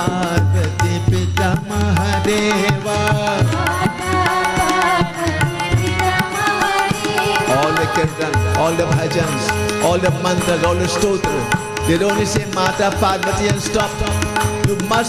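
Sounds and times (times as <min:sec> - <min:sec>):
hand drums playing: 0:00.0 - 0:15.0.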